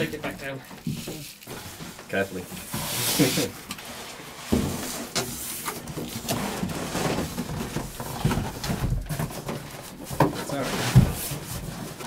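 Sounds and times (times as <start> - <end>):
foam and cardboard rustling: 0.0 - 12.0.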